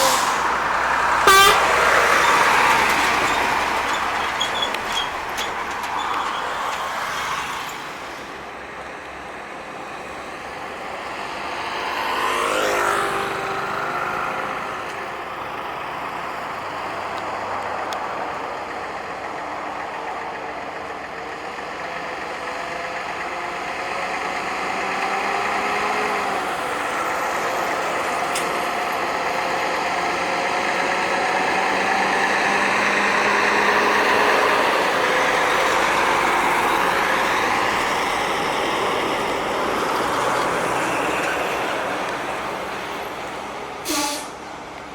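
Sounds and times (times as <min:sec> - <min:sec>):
heavy trucks driving past: 0:00.0 - 0:44.9
road noise: 0:00.0 - 0:44.9.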